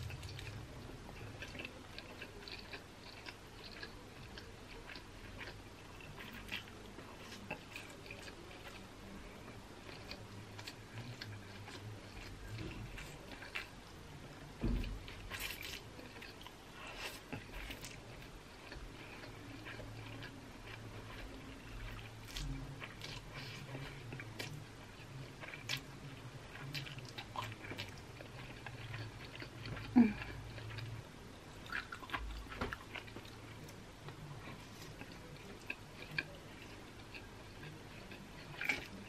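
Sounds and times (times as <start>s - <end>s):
wet chewing: 0.0s - 31.0s, 31.6s - 39.0s.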